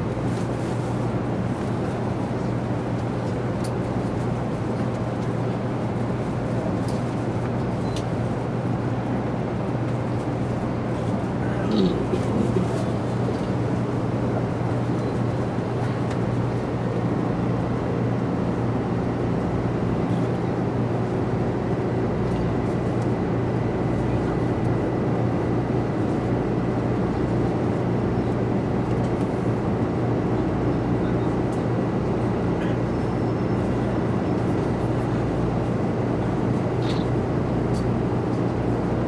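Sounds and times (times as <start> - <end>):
train carriage running noise: 0.0 - 39.0.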